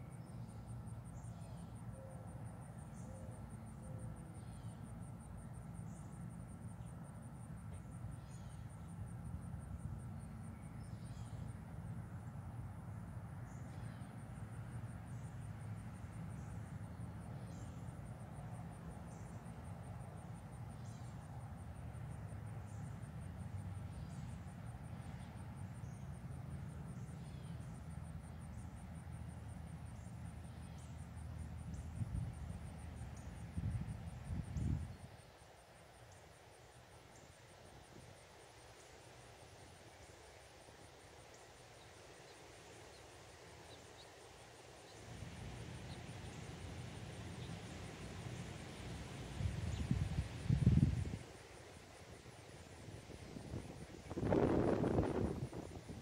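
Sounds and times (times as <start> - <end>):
low steady rumble: 0.0 - 35.2, 44.8 - 56.0
insects trilling: 0.0 - 56.0.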